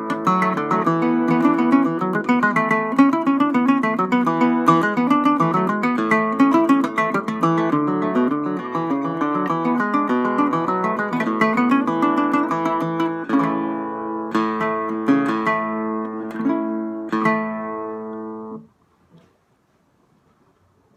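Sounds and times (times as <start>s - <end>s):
small guitar picked melody: 0.0s - 18.7s.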